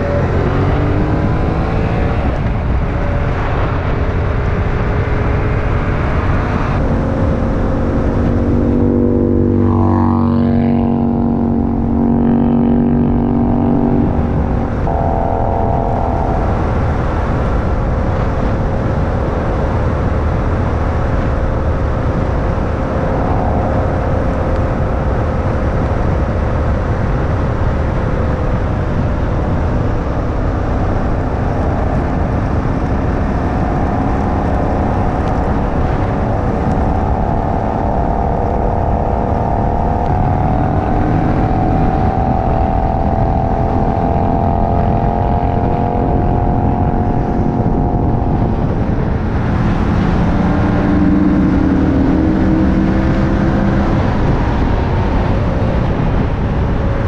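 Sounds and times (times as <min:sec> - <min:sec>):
motorcycle engine cruising: 0:00.0 - 0:57.0
wind rush on microphone: 0:00.0 - 0:57.0.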